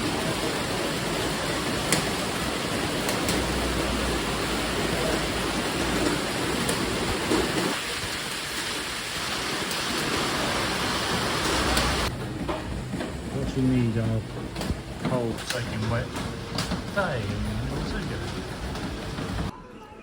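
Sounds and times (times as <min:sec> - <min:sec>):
heavy rain falling: 0:00.0 - 0:19.5.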